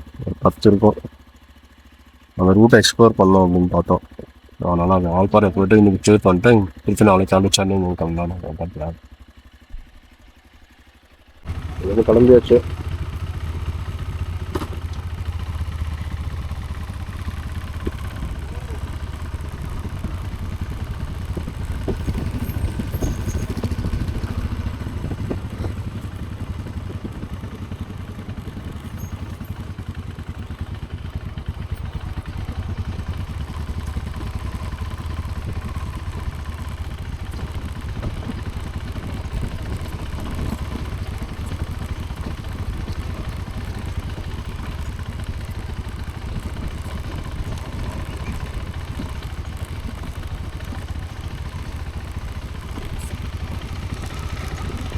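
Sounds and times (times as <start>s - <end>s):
motorcycle engine rumble: 0.0s - 54.9s.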